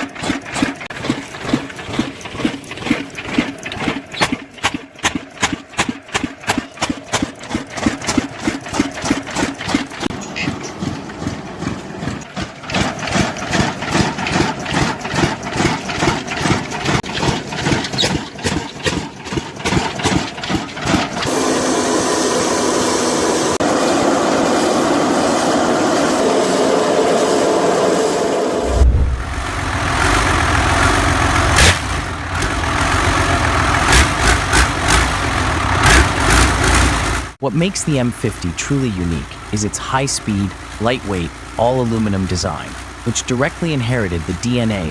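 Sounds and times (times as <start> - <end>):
diesel engine firing beats: 0.0 - 44.9.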